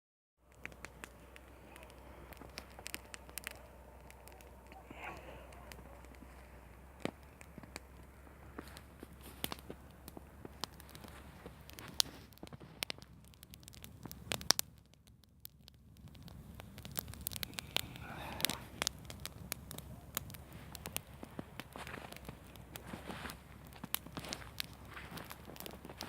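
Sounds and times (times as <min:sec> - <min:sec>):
campfire crackling: 0:00.4 - 0:26.0.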